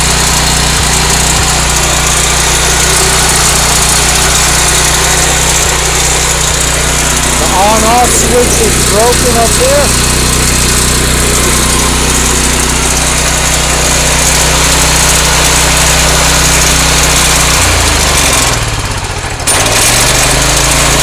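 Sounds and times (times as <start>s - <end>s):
concrete saw engine running: 0.0s - 21.0s.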